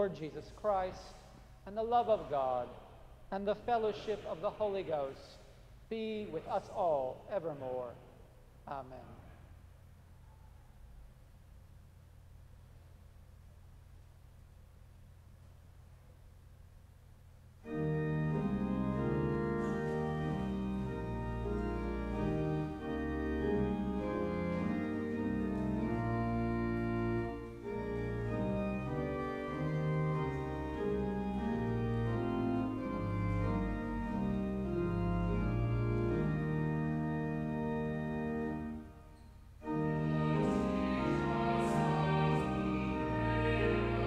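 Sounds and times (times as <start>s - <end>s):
pipe organ chords: 0.0s - 9.9s, 11.2s - 44.0s.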